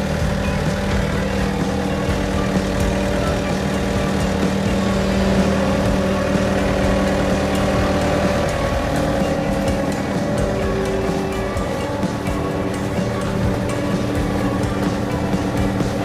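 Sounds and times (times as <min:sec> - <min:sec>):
humming tone: 0:00.0 - 0:16.0
large engine running: 0:00.0 - 0:16.0.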